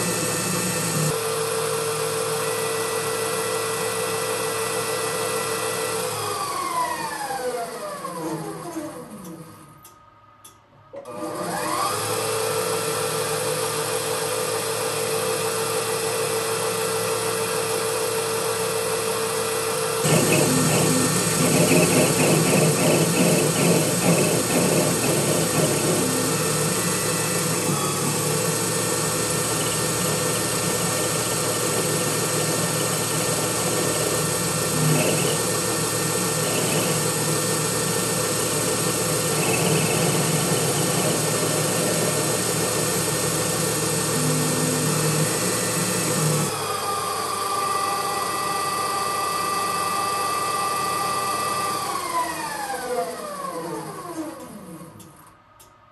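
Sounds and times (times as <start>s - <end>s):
lathe motor whine and spindle hum: 0.0s - 10.3s, 10.9s - 55.5s.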